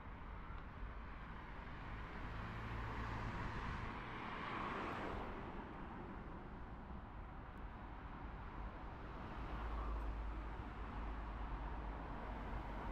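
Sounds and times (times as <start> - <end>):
low hum of city traffic: 0.0 - 12.9.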